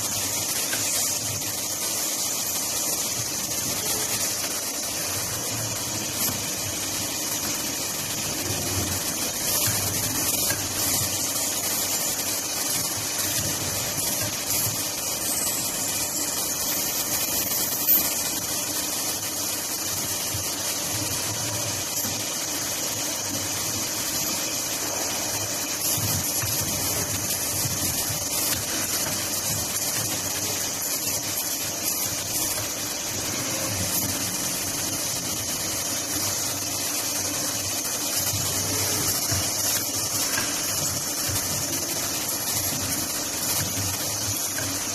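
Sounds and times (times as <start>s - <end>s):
cutting machine hissing: 0.0s - 44.9s.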